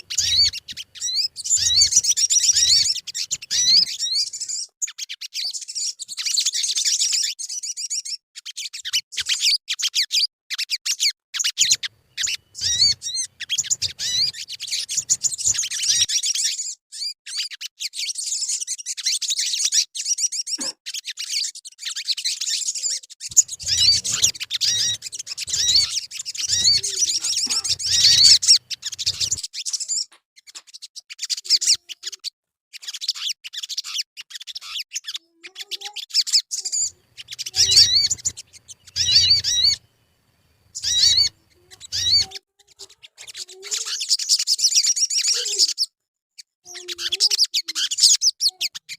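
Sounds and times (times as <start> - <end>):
bird twittering and chirping: 0.0 - 48.9.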